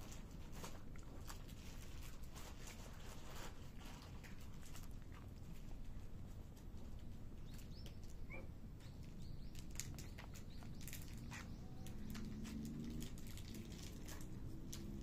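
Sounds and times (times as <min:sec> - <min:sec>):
cat crunching dry kibble: 0:00.0 - 0:08.2, 0:08.9 - 0:15.0.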